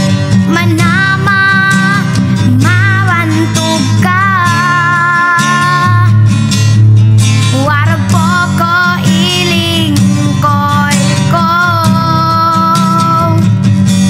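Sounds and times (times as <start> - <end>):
guitar accompaniment: 0.0 - 14.0
song with held melody notes: 0.0 - 14.0.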